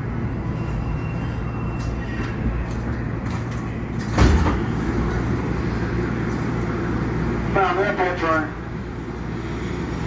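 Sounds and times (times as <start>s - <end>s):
train car low hum: 0.0s - 10.0s.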